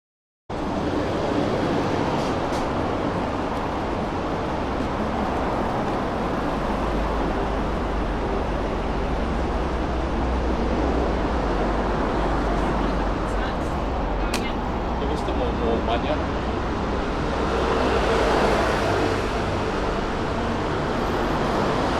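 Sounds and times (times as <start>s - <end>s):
traffic noise: 0.5s - 21.9s.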